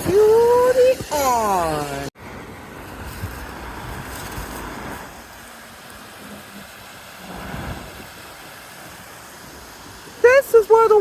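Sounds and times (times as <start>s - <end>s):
flooded stream rushing: 0.0s - 11.0s
wind rumbling on microphone: 0.0s - 11.0s.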